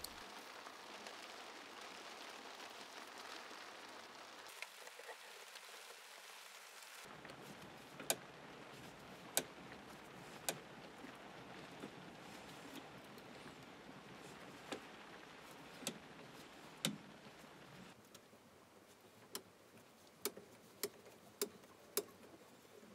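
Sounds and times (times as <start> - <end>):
faint hiss: 0.0 - 22.9.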